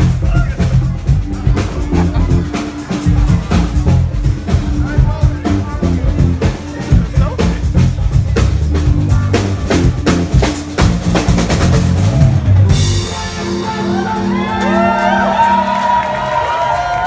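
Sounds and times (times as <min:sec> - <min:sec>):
drum kit beat with cymbals: 0:00.0 - 0:15.9.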